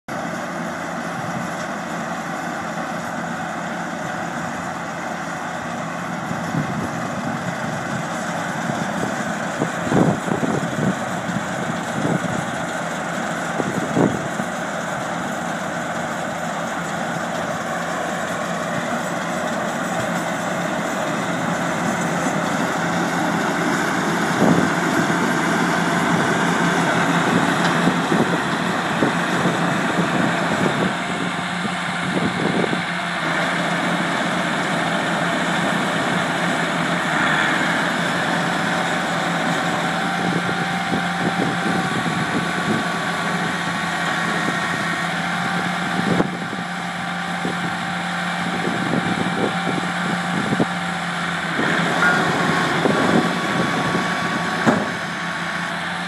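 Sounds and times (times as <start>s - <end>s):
tractor engine running: 0.1s - 56.0s.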